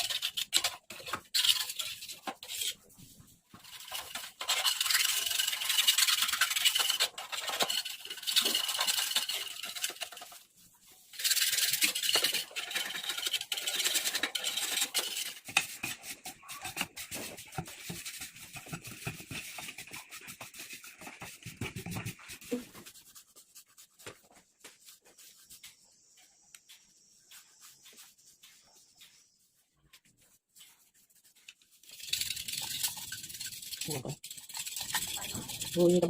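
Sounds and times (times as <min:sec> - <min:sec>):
rubbing and scraping on metal: 0:00.0 - 0:26.2, 0:27.2 - 0:36.0.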